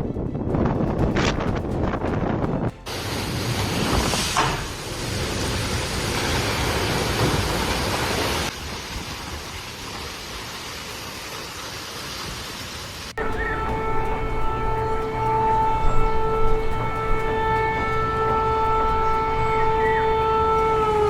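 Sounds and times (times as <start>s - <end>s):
storm wind: 0.0s - 20.8s
heavy rain: 2.9s - 19.8s.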